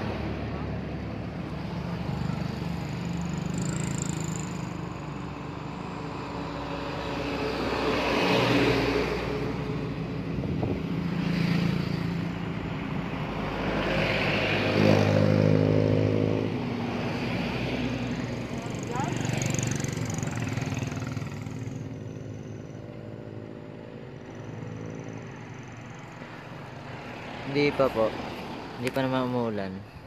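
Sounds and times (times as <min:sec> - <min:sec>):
car passing: 0:00.0 - 0:30.0
motorcycles passing: 0:00.0 - 0:30.0.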